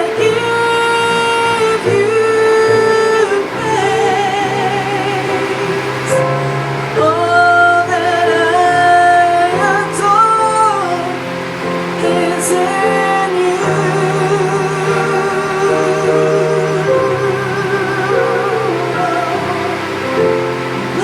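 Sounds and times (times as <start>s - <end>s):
sustained chords: 0.0s - 21.0s.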